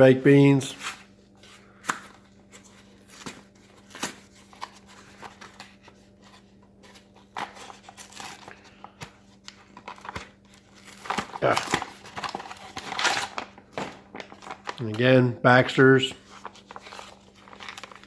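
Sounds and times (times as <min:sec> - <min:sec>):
packaging rustling and clicking: 0:01.9 - 0:15.1, 0:16.2 - 0:18.0.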